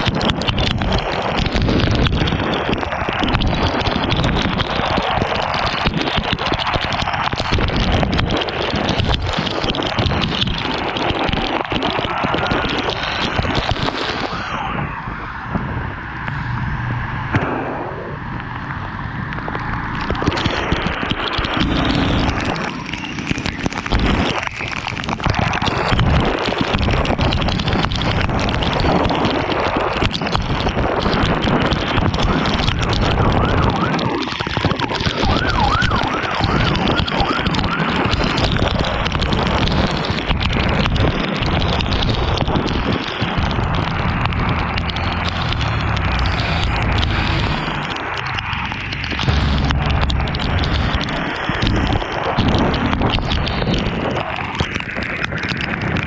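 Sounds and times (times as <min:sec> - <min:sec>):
road wind and rain noise: 0:00.0 - 0:56.0.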